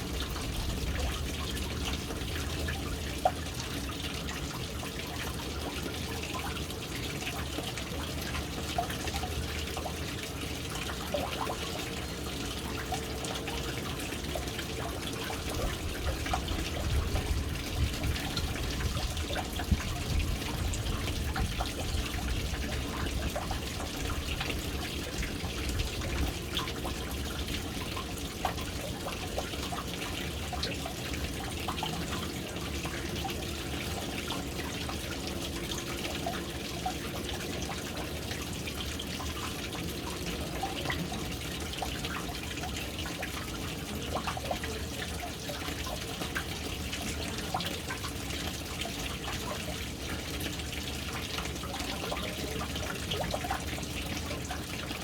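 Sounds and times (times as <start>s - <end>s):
small water drips: 0.0s - 55.0s
water pouring into a tank: 0.0s - 55.0s.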